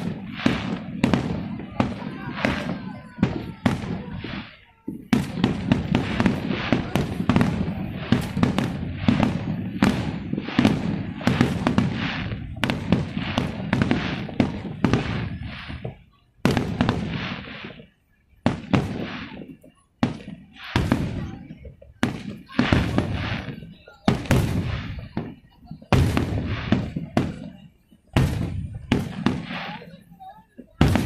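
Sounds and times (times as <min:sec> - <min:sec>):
fireworks shells bursting: 0:00.0 - 0:31.0.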